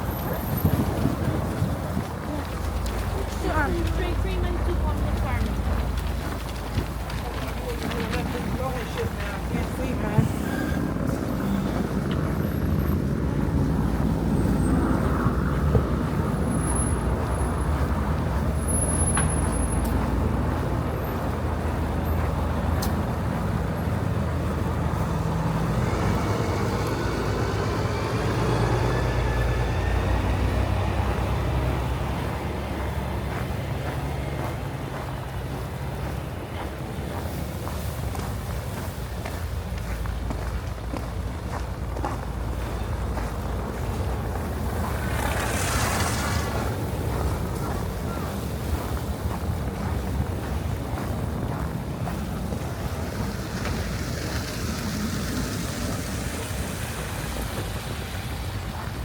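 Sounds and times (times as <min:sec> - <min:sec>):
heavy vehicle engine rumbling: 0:00.0 - 0:59.0.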